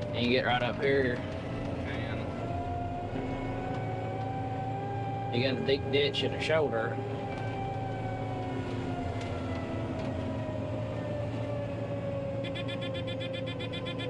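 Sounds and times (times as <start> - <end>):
combine engine drone with whine: 0.0 - 14.0.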